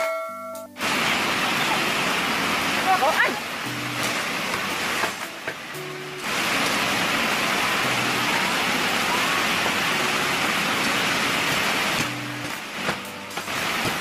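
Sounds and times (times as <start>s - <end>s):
faint music: 0.0s - 14.0s
loud steady hiss: 0.7s - 14.0s.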